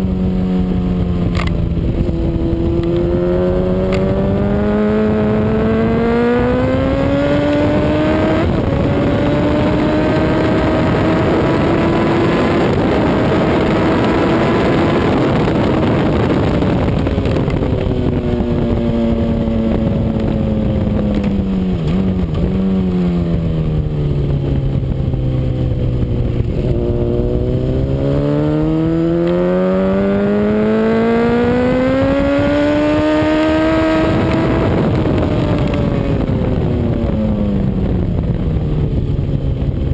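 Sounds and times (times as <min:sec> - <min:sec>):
motorcycle engine pulling hard: 0:00.0 - 0:39.9
wind rush: 0:00.0 - 0:39.9.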